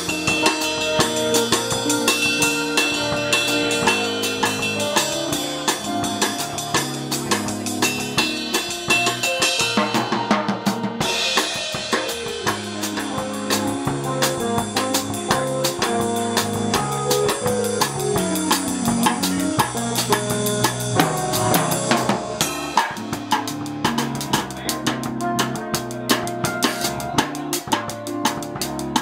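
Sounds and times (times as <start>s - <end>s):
drum kit beat: 0.0s - 29.0s.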